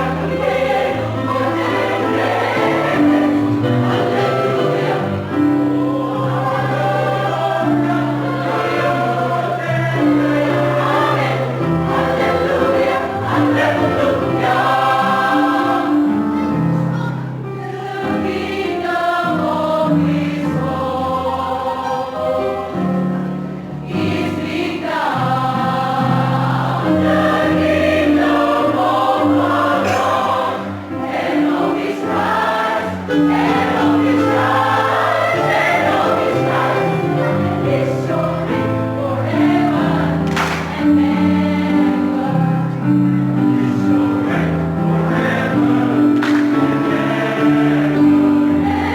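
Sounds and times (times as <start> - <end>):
choir singing: 0.0 - 48.9.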